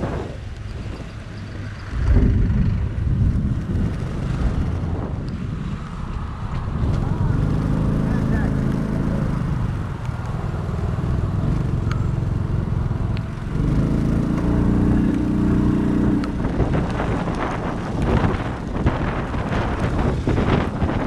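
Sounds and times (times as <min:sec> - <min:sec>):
vehicle engine hum: 0:00.0 - 0:21.0
vehicle passing close by: 0:00.0 - 0:21.0.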